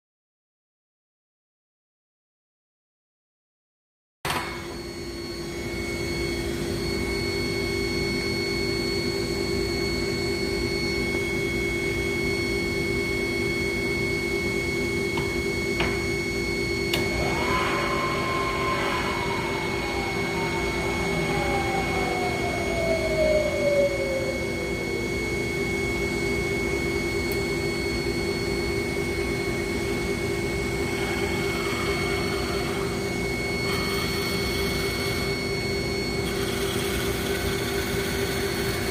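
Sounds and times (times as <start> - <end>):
falling whine: 4.3 - 38.9
milling machine hum: 4.3 - 38.9.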